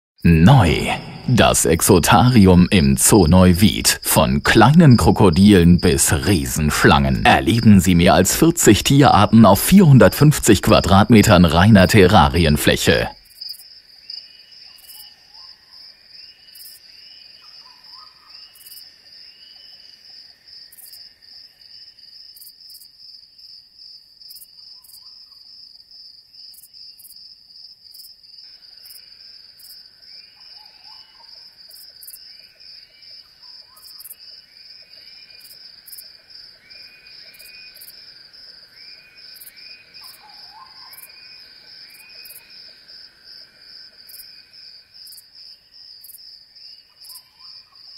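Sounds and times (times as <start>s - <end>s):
insects chirping: 0.3s - 47.9s
lower insect call: 0.3s - 47.9s.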